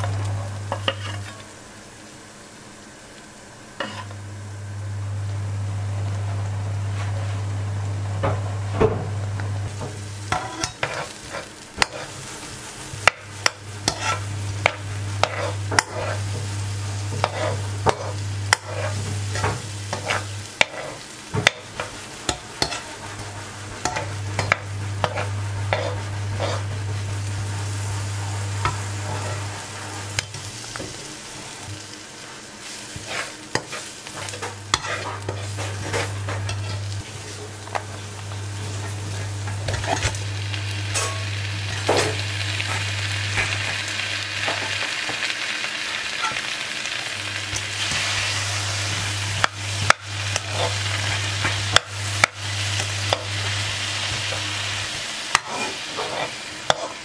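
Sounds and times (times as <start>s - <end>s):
onion sizzling in a wok: 0.0s - 57.0s.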